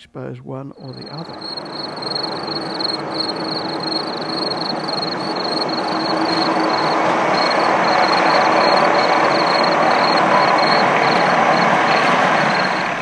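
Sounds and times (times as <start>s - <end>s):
railcar rushing rumble: 0.8s - 13.0s
short high pulsing tone: 0.8s - 13.0s.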